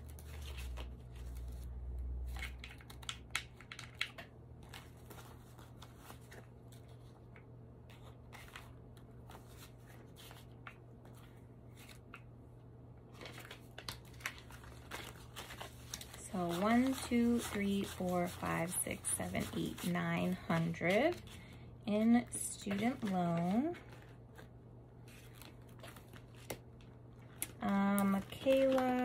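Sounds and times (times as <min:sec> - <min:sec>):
banknotes rustling and flicking: 0:00.0 - 0:12.3, 0:13.1 - 0:29.0.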